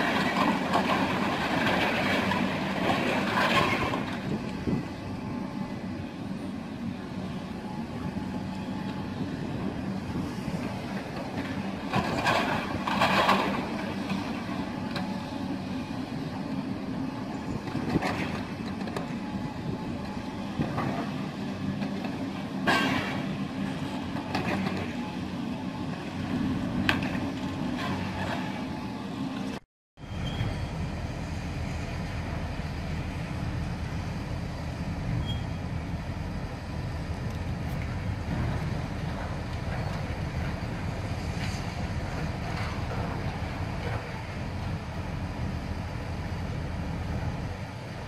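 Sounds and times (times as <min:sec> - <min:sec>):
excavator diesel engines running: 0:00.0 - 0:48.0.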